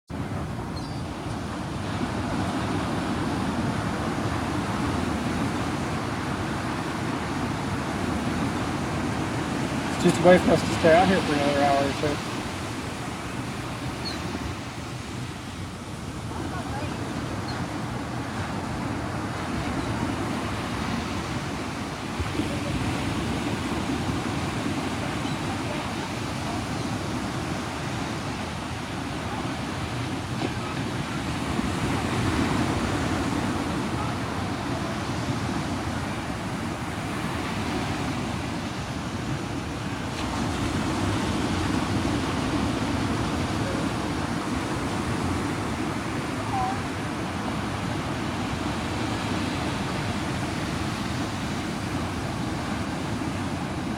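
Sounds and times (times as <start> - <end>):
ocean surf rushing: 0.1 - 53.9.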